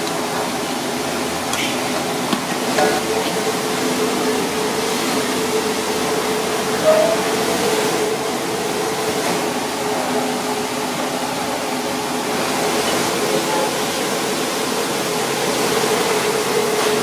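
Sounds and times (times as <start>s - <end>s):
gas burner and ventilation rushing: 0.0s - 17.0s.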